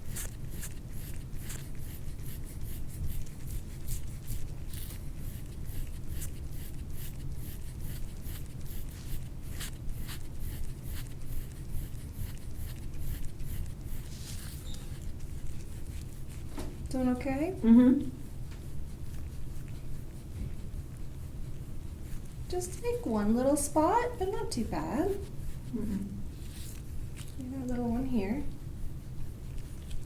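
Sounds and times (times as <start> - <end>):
rubbing and scraping on skin: 0.0 - 17.5, 18.2 - 30.0.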